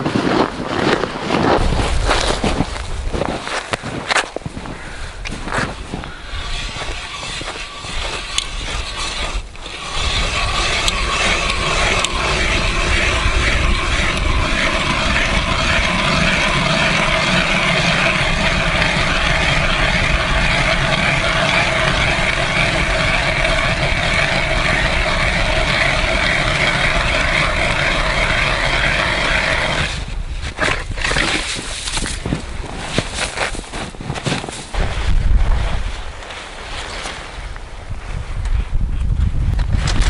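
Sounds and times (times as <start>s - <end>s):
ice auger grinding: 0.7s - 34.8s
auger knocking and scraping: 1.6s - 35.5s.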